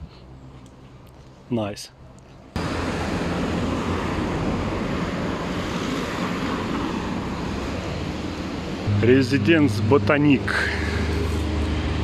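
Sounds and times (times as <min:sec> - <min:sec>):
city traffic roar: 0:00.0 - 0:12.0.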